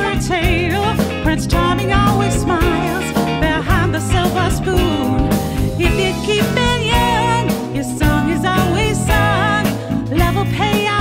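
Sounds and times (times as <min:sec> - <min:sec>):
pop band playing: 0:00.0 - 0:11.0
woman singing with vibrato: 0:00.0 - 0:11.0.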